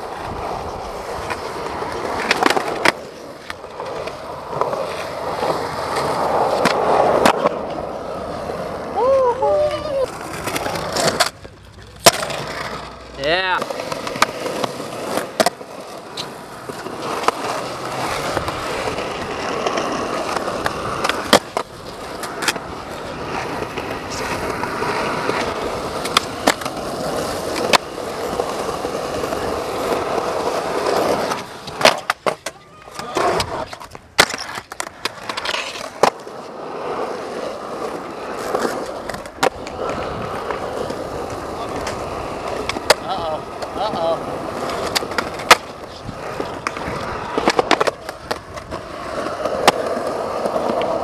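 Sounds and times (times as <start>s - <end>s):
skateboard grinding on concrete ledge: 0.0s - 51.0s
skateboard wheels rolling on concrete: 0.0s - 51.0s
skateboards popping and landing: 0.0s - 51.0s.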